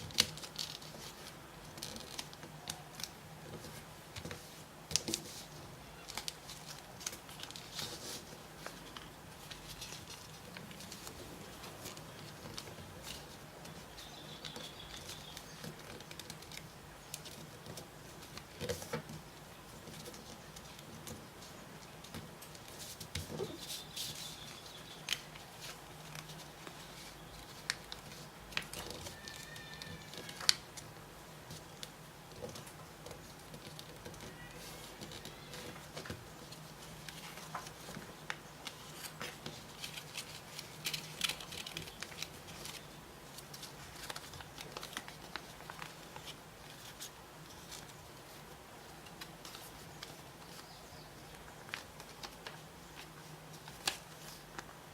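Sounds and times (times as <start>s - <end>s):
paper being folded and creased: 0.0s - 54.9s.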